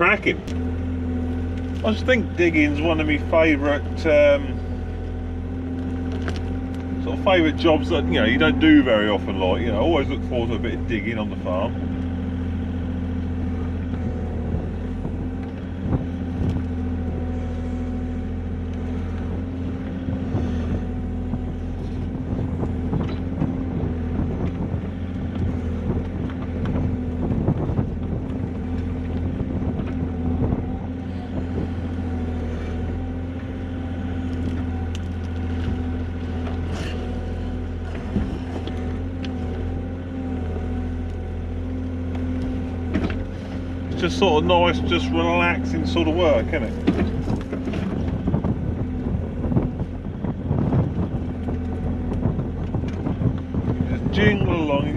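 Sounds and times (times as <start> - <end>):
excavator diesel engine running: 0.0 - 54.9
hydraulics working: 0.0 - 54.9.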